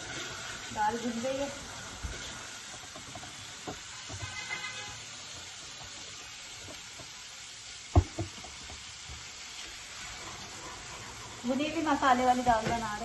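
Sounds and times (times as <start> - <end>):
lentils sizzling in a pot: 0.0 - 13.0.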